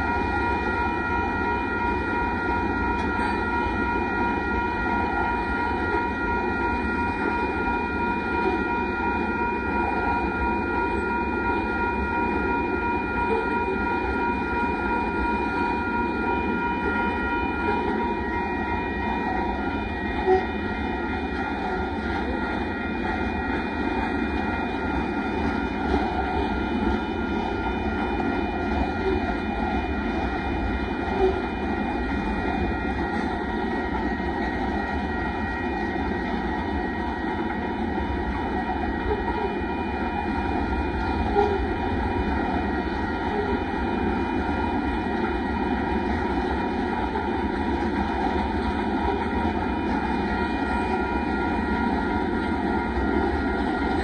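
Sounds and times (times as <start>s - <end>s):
steel wheels rumbling on rail: 0.0s - 54.0s
thin high ringing tone: 0.0s - 54.0s.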